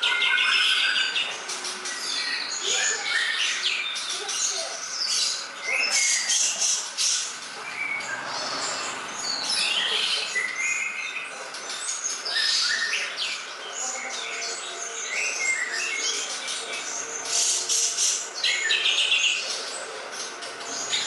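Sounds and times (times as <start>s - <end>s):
songbirds chirping and whistling: 0.0s - 21.0s.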